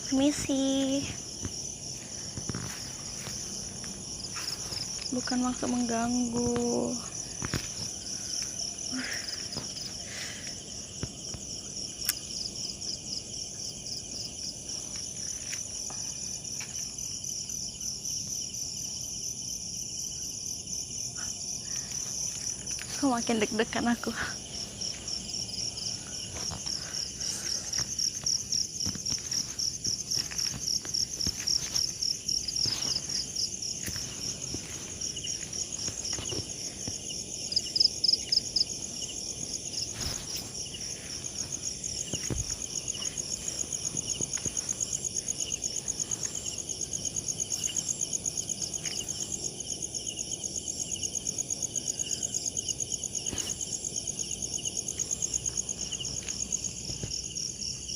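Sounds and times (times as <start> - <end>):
crickets chirping: 0.0 - 57.9
nearer louder cricket trill: 0.0 - 57.9.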